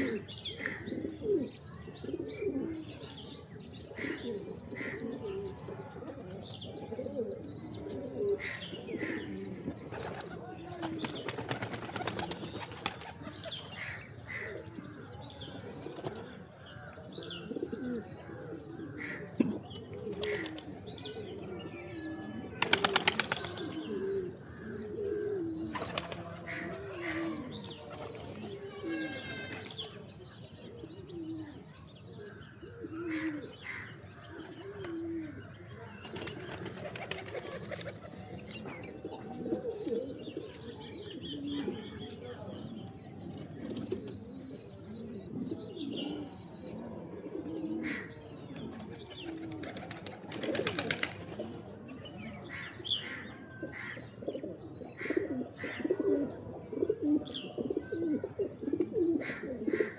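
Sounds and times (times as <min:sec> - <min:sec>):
pigeons cooing: 0:00.0 - 0:03.2, 0:03.8 - 0:30.0, 0:30.6 - 0:31.7, 0:32.6 - 0:59.9.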